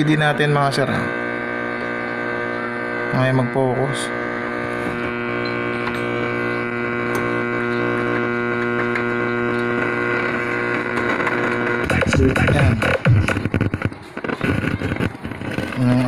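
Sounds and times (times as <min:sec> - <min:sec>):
speaker mains hum: 0:00.0 - 0:16.0.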